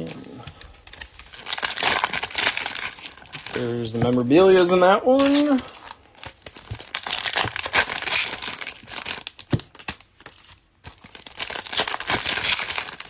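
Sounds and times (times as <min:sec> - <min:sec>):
foil wrappers crinkling and tearing: 0:00.0 - 0:13.0.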